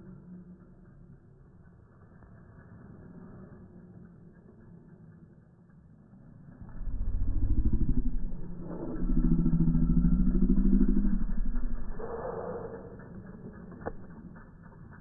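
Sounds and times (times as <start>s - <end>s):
vehicle engine running slowly: 0.0s - 15.0s.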